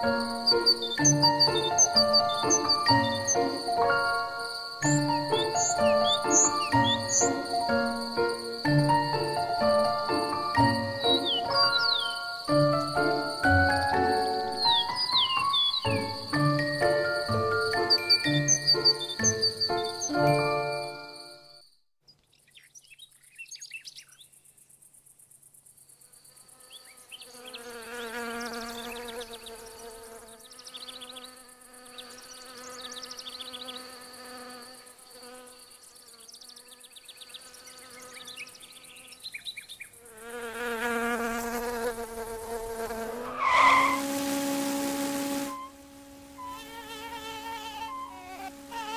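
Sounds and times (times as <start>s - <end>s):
insect wings buzzing: 0.0s - 20.1s, 24.3s - 48.9s.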